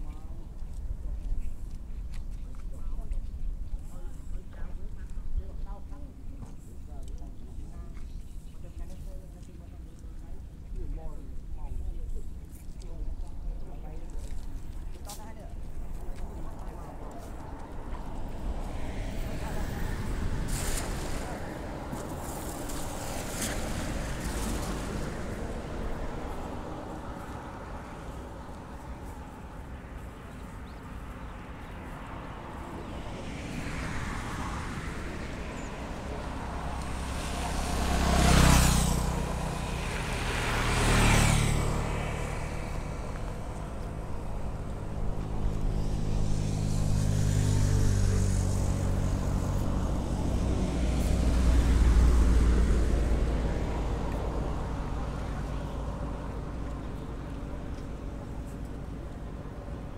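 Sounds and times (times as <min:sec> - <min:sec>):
low vehicle engine: 0:00.0 - 0:59.9
vehicles passing by: 0:00.0 - 0:59.9.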